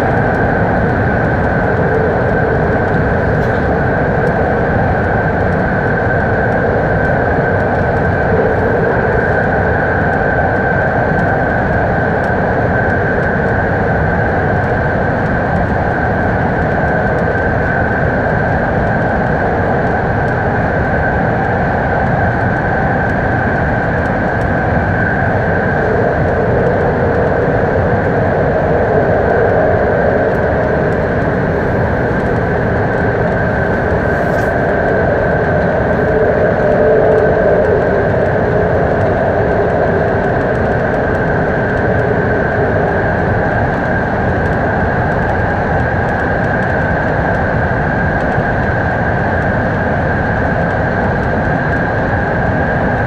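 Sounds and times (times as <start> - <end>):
high train whine: 0.0 - 53.0
train rumbling in tunnel: 0.0 - 53.0.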